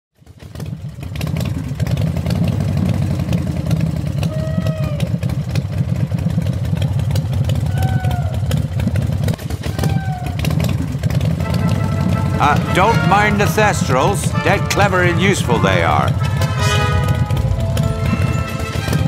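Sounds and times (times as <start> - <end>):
motorbike engine rumble: 0.2 - 19.0.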